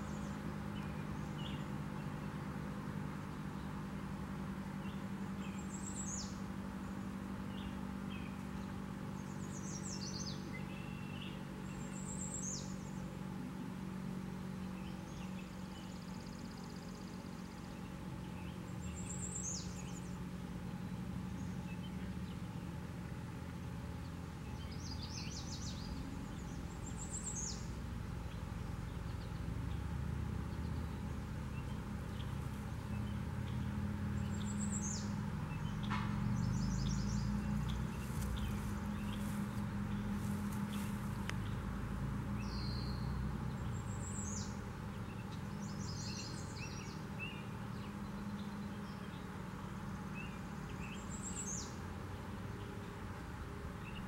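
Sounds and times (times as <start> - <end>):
steady low background hum: 0.0 - 54.0.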